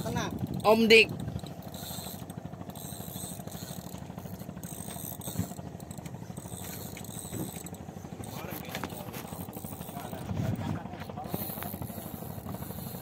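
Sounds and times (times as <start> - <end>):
boat engine throbbing: 0.0 - 13.0.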